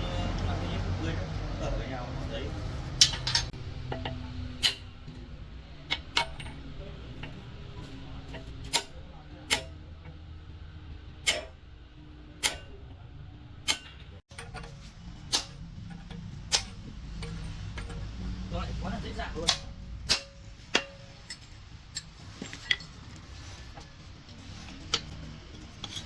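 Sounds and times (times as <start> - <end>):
low workshop background: 0.0 - 26.0.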